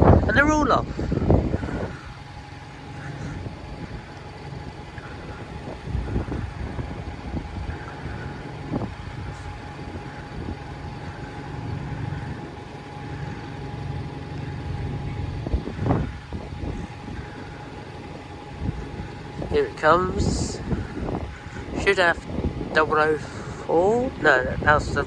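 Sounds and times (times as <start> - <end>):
cars and buses passing: 0.0 - 25.0
faint high whine: 0.0 - 25.0
low traffic rumble: 0.0 - 25.0.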